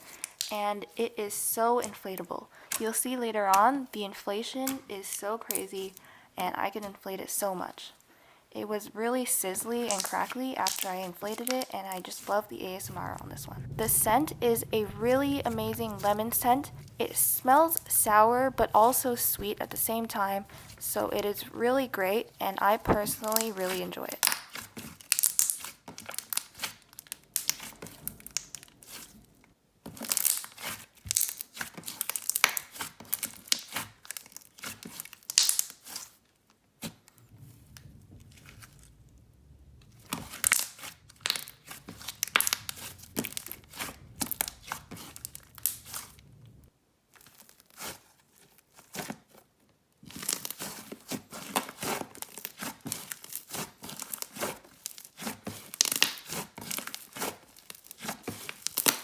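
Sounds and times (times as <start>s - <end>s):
slime crackling and popping: 0.1s - 0.6s, 9.7s - 36.2s, 36.8s - 48.1s, 50.0s - 59.0s.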